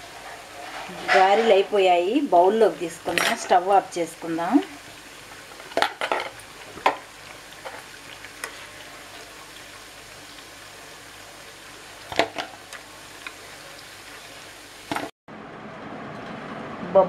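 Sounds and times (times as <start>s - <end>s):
food sizzling in hot oil: 0.0s - 15.1s.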